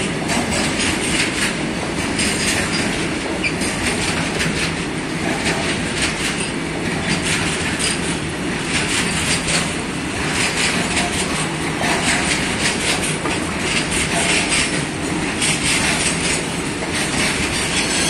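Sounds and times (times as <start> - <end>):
freight train rumble: 0.0 - 18.0
train wheels clacking on rails: 0.0 - 18.0.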